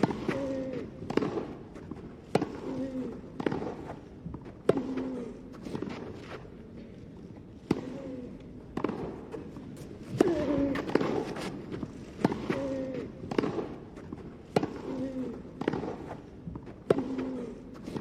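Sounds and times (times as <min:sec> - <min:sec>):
racket hitting tennis ball: 0:00.0 - 0:06.5, 0:07.6 - 0:18.0.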